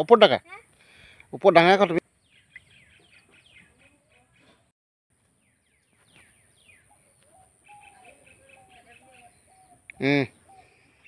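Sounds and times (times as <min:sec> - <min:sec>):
bird chirps: 0:01.8 - 0:11.0.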